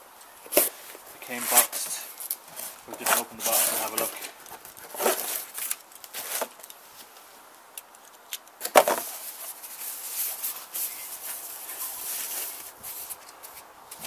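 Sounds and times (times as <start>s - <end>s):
tissue paper rustling and crinkling: 0.6s - 7.2s, 8.8s - 13.6s.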